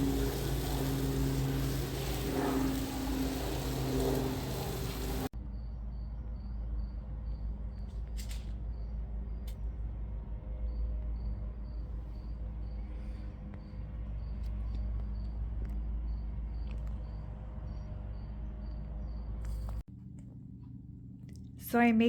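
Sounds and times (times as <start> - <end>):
cricket chirping: 0.0 - 9.6, 10.6 - 19.8
rumble with low humming tones: 0.0 - 22.0.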